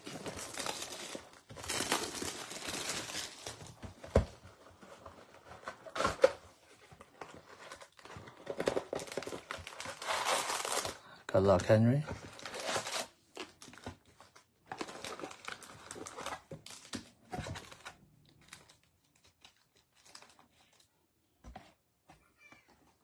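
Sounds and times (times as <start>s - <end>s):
foil card packs crinkling: 0.0s - 6.4s, 7.2s - 20.9s.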